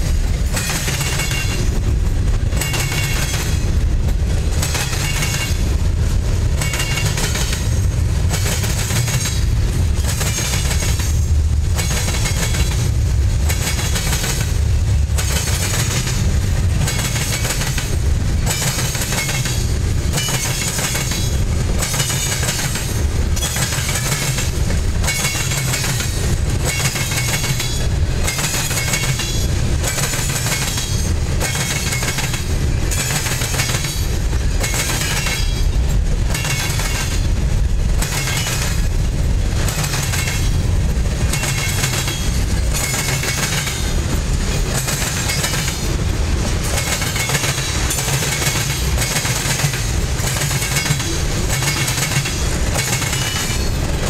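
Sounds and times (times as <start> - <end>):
freight train rumbling past: 0.0 - 54.0
wheels clickety-clack on rail joints: 0.0 - 54.0.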